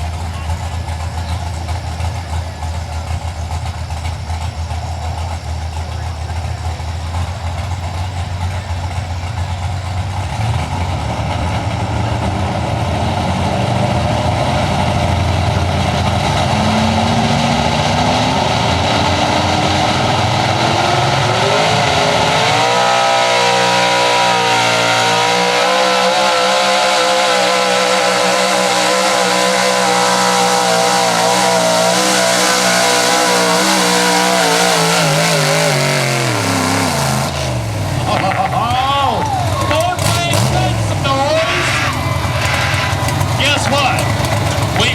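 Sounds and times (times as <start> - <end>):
truck engine revving under load: 0.0 - 44.9.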